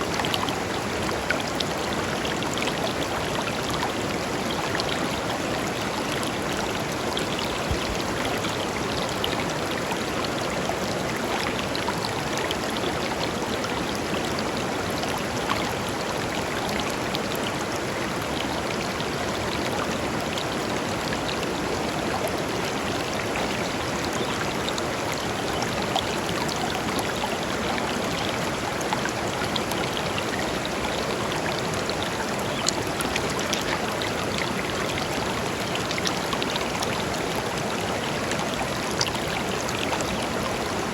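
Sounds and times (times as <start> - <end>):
river flowing over stones: 0.0 - 40.9
small splashes and trickles: 0.0 - 40.9.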